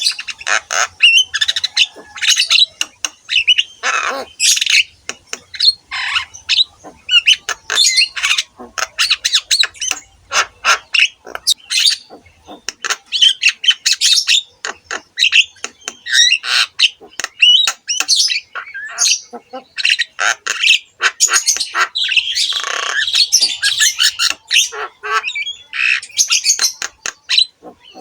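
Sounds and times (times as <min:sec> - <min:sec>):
myna singing squawks and whistles: 0:00.0 - 0:28.0.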